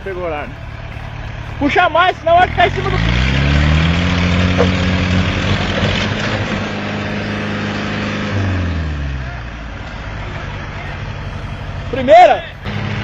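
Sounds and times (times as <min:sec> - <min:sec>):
off-road vehicle engine under load: 0:00.0 - 0:13.0.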